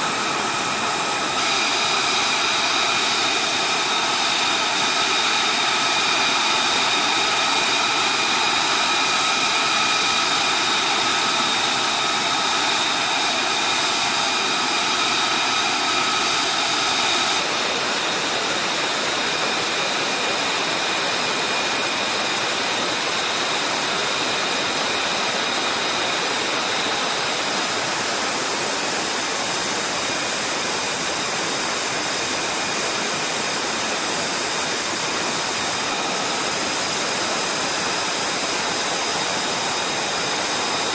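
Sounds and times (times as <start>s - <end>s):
jet engine idling: 0.0s - 40.9s.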